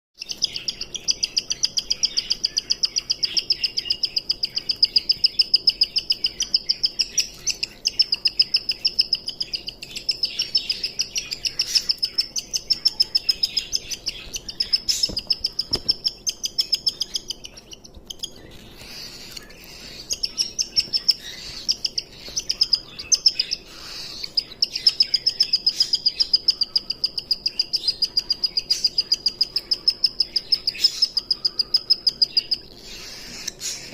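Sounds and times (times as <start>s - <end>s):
cockatiel chirping: 0.2s - 33.9s.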